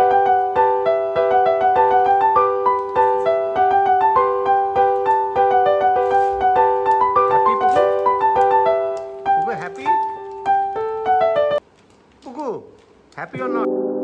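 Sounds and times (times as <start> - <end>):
gentle piano music: 0.0 - 11.6.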